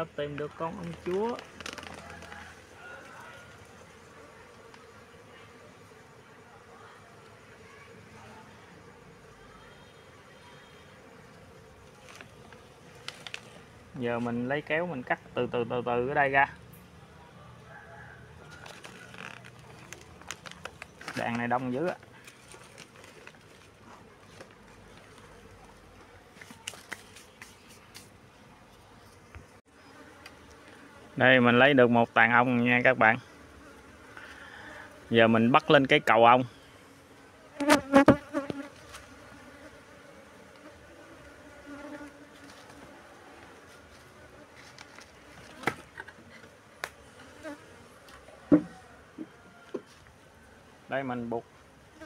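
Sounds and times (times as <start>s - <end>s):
faint buzzing of bees: 0.0s - 52.0s.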